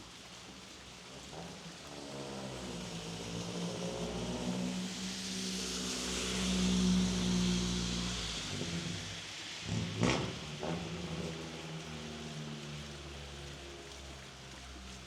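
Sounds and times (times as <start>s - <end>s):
steady rain: 0.0s - 15.0s
vehicle passing on wet road: 0.4s - 15.0s.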